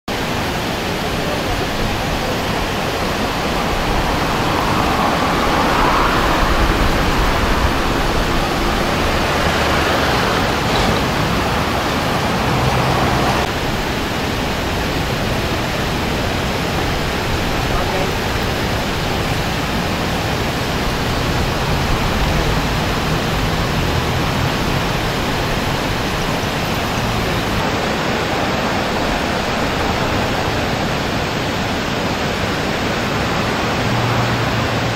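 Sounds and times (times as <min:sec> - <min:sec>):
floodwater rushing over weir: 0:00.1 - 0:34.9.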